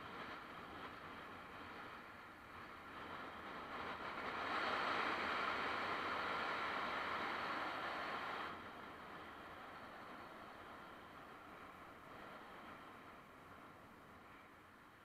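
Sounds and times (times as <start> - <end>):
rushing wind and road noise: 0.0 - 15.0.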